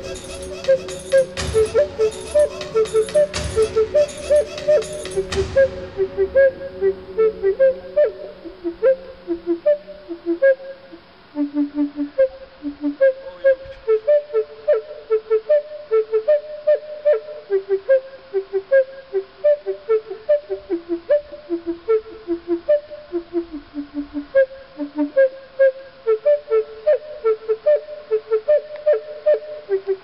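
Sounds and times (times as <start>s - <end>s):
flute melody: 0.0s - 30.0s.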